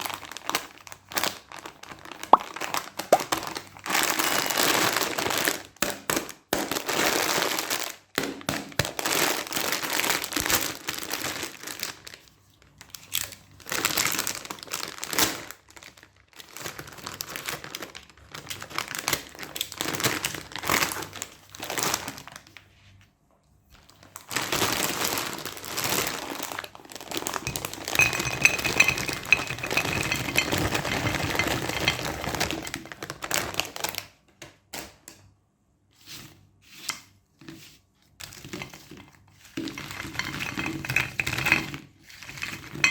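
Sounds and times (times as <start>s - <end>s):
plastic candy wrappers crinkling: 0.0s - 8.1s, 8.8s - 12.2s, 12.8s - 22.6s, 23.8s - 34.2s, 39.6s - 42.9s.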